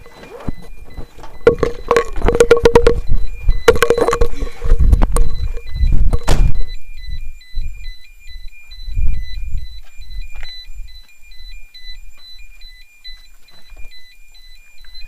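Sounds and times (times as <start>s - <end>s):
two-tone electronic warning beeper: 0.0s - 15.0s.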